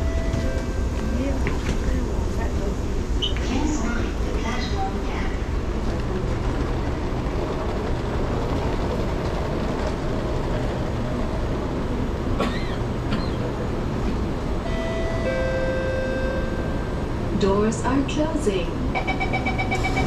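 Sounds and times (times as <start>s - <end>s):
train humming: 0.0s - 20.0s.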